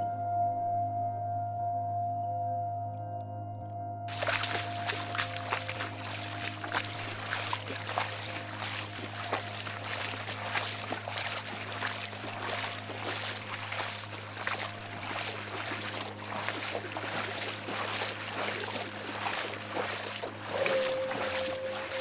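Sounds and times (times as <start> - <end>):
low steady hum: 0.0 - 22.0
footsteps splashing through water: 4.1 - 22.0.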